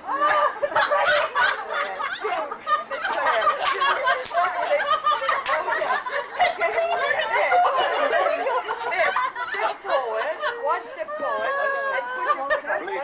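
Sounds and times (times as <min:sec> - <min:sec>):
people laughing and chattering: 0:00.0 - 0:13.0.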